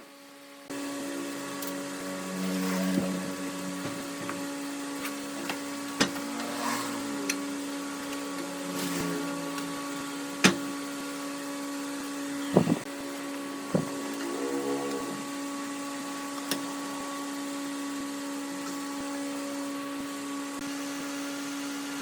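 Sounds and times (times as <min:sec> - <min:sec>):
lathe motor humming: 0:00.6 - 0:22.0.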